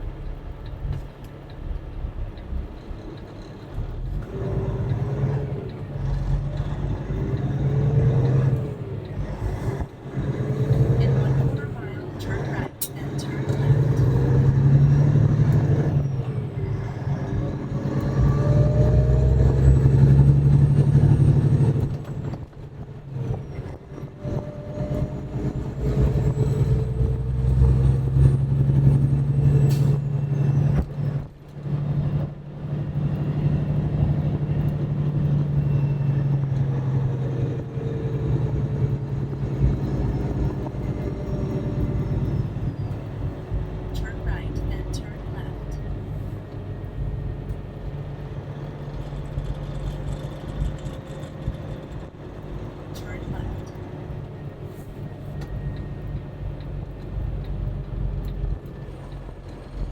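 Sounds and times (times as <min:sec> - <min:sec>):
truck diesel engine accelerating: 0:00.0 - 0:59.9.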